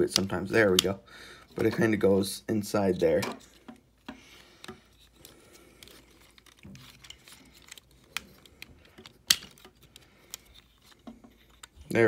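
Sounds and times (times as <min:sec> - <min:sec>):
plastic parts clicking and rattling: 0:00.0 - 0:02.0, 0:03.0 - 0:12.0.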